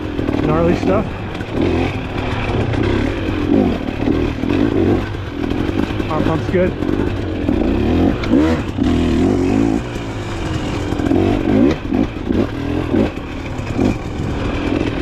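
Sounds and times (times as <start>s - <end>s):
bike knocking and clattering: 0.0s - 15.0s
dirt bike engine revving: 0.0s - 15.0s.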